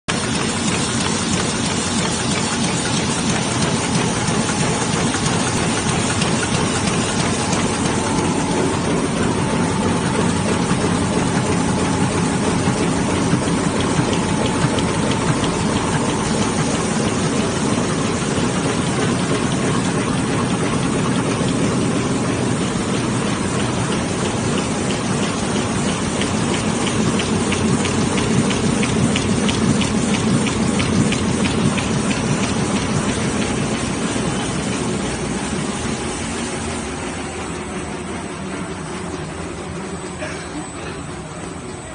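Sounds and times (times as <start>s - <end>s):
fast even machine ticking: 0.1s - 36.0s
printing press mechanical clatter: 0.1s - 41.9s.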